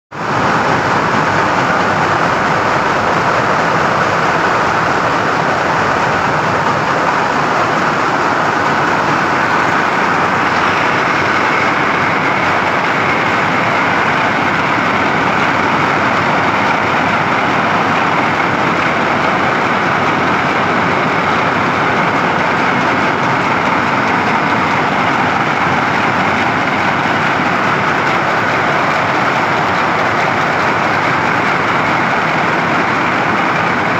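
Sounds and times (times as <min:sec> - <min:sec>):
weaving looms clattering: 0:00.2 - 0:33.9.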